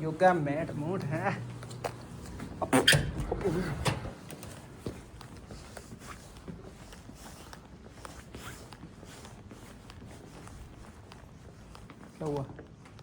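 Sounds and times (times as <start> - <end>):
faint footsteps: 0.0 - 13.0.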